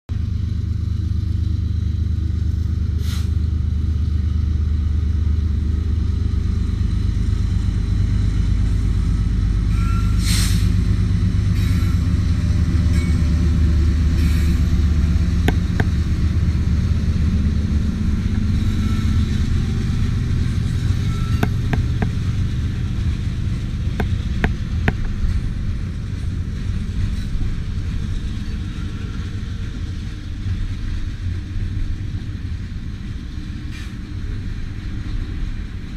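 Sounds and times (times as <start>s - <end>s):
freight train rumbling: 0.1s - 35.9s.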